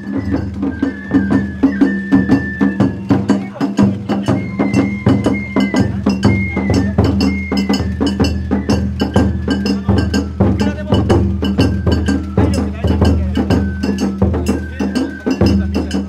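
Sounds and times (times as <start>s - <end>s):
clacking and clinking percussion: 0.0s - 16.0s
high flute melody: 0.0s - 16.0s
taiko drum beaten with sticks: 0.0s - 16.0s.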